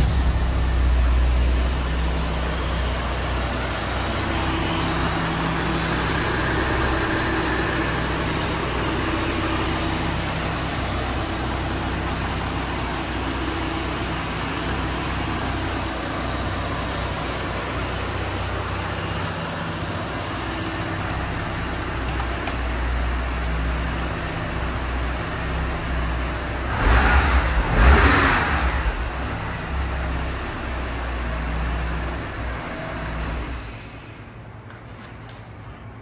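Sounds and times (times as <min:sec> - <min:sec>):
car engine idling: 0:00.0 - 0:34.8.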